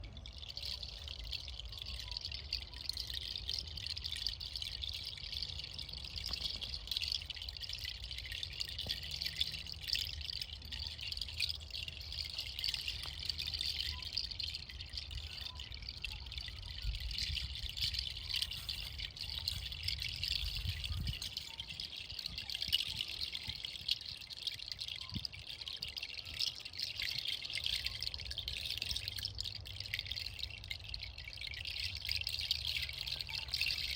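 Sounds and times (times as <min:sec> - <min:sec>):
seed pod chime rattling: 0:00.0 - 0:33.9.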